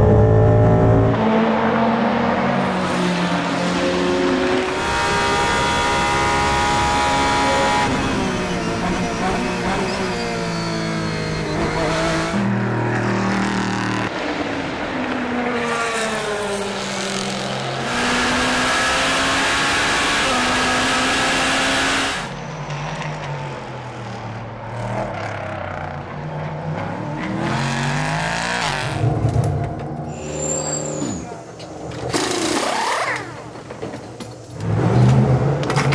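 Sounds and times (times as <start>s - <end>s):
racing car engines revving: 0.0s - 29.9s
cars passing by: 1.0s - 32.1s.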